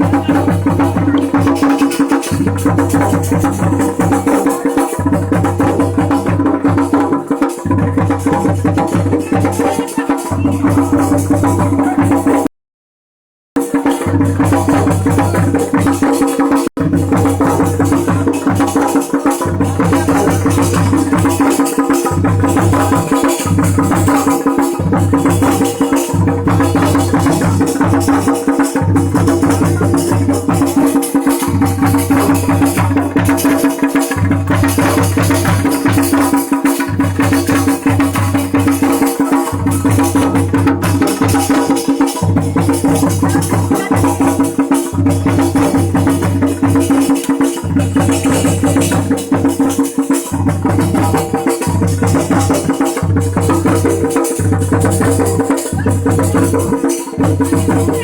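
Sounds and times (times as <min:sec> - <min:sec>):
clattering percussion: 0:00.0 - 0:12.5, 0:13.6 - 0:58.0
fast driving drumming: 0:00.0 - 0:12.5, 0:13.6 - 0:58.0.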